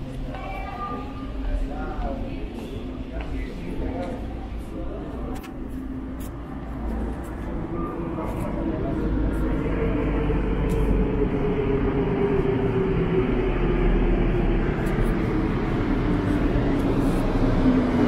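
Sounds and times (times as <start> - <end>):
metro train rumbling: 0.0 - 18.0.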